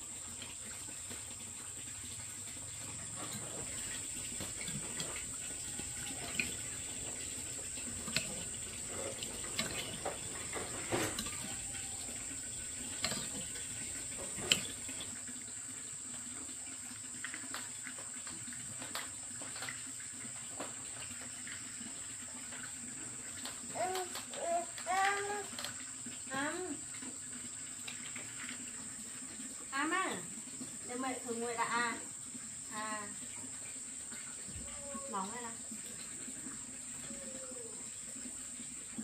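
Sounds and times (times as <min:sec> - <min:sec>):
high insect drone: 0:03.2 - 0:18.1, 0:20.5 - 0:39.0.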